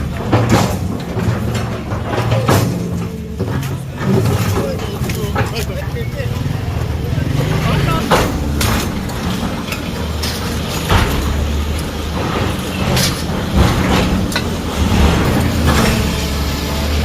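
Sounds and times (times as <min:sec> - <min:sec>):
demolition knocks and clatters: 0:00.0 - 0:17.0
diesel machinery droning: 0:00.0 - 0:17.0.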